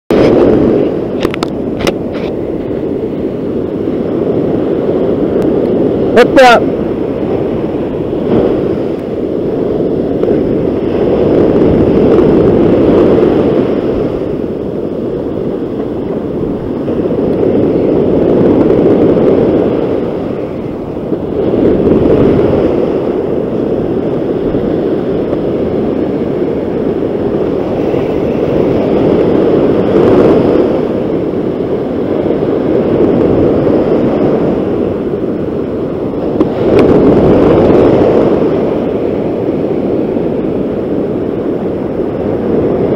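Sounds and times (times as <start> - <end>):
ocean surf breaking: 0.1 - 42.9
wind buffeting the microphone: 0.1 - 42.9.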